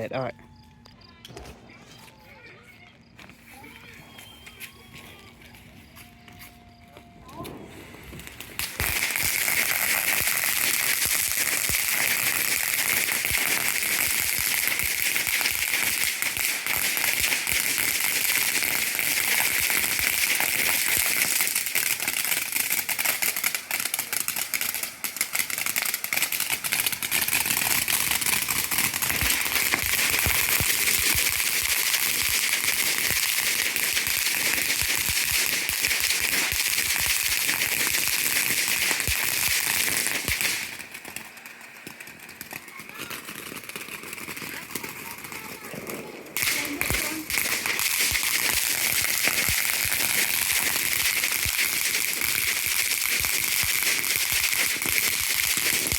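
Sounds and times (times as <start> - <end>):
firework hissing and crackling: 7.3 - 55.9.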